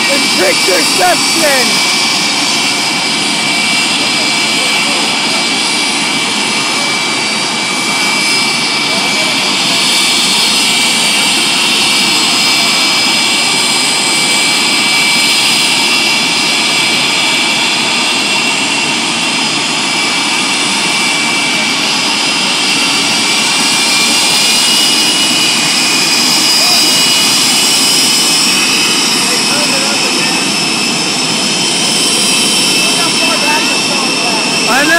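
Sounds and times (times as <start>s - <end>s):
jet engine running: 0.0s - 34.9s.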